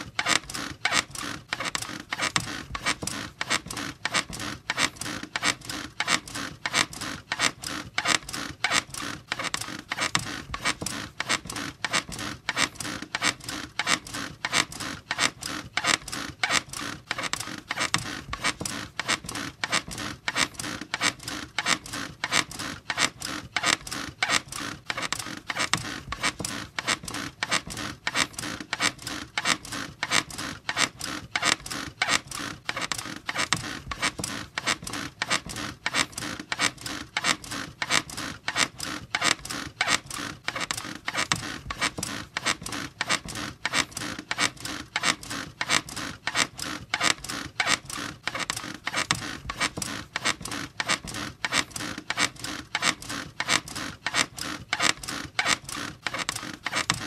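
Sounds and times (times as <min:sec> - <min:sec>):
squeaky bed creaking: 0:00.0 - 0:57.0.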